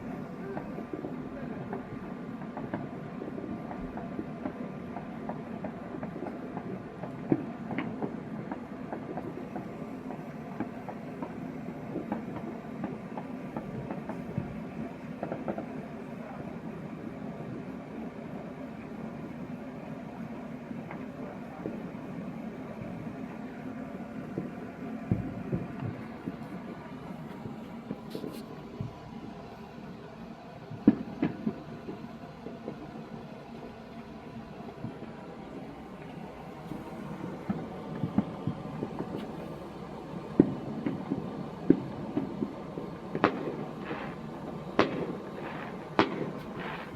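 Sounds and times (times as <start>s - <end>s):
continuous rumble: 0.0s - 46.9s
distant fireworks crackling: 0.0s - 46.9s
steady low hum: 0.0s - 46.9s.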